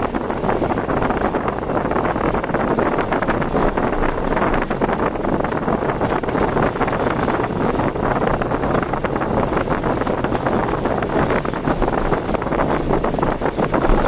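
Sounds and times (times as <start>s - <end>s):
car driving on road: 0.0s - 14.0s
wind on microphone: 0.0s - 14.0s.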